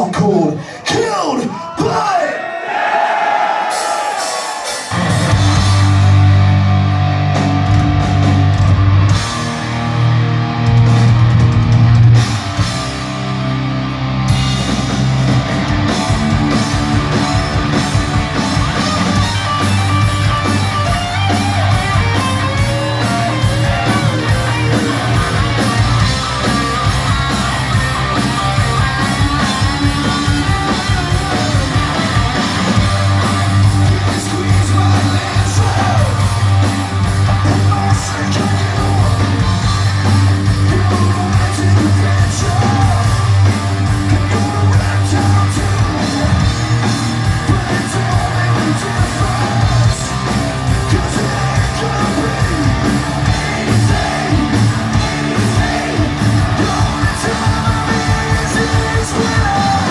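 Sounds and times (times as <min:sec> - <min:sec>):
drum kit beat: 0:03.6 - 0:59.9
distorted electric guitar: 0:04.2 - 0:59.9
bass guitar chords: 0:04.9 - 0:59.9.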